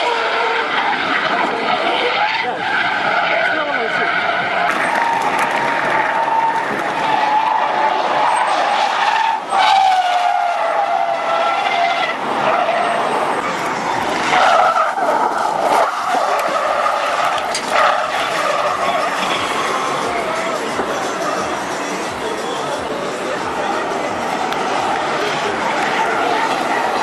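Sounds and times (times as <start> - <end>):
car engine running hard: 0.0 - 27.0
car tyres squealing: 0.0 - 27.0.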